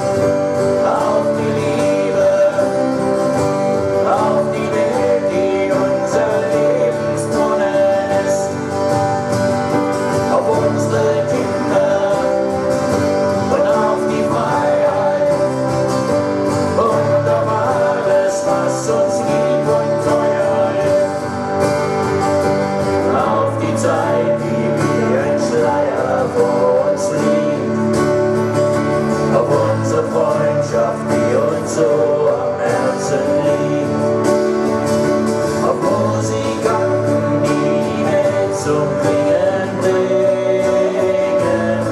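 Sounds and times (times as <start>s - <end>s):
guitar playing: 0.0s - 41.9s
live band music: 0.0s - 41.9s.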